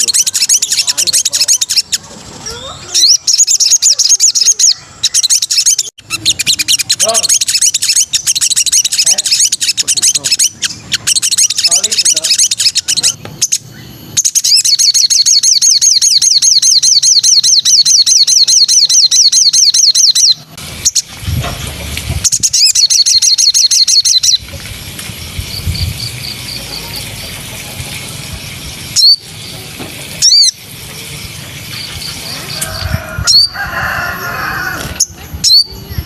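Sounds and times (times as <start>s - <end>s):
songbird singing: 0.0s - 36.0s.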